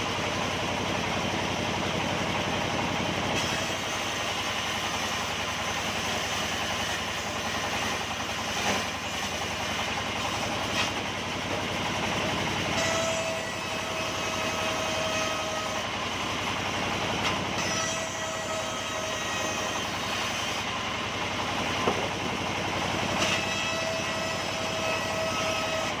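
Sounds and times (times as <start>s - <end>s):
sawmill machinery sawing: 0.0s - 26.0s.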